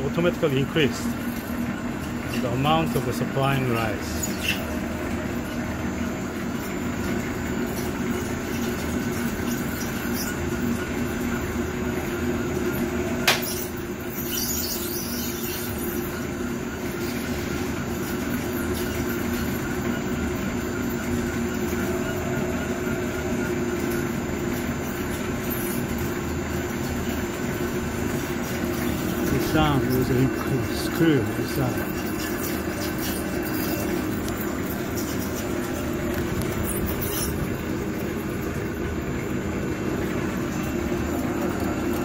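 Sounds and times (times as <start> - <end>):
snack extruder machine drone: 0.0 - 42.0.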